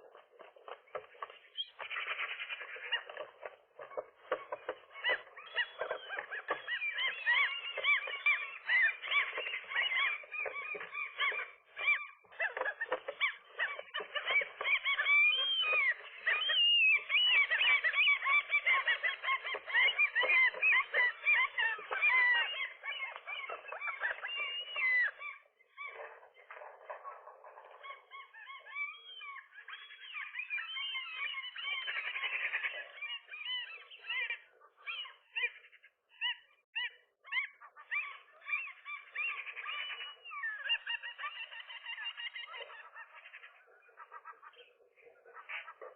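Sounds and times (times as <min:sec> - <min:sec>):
gulls calling: 0:00.0 - 0:45.9.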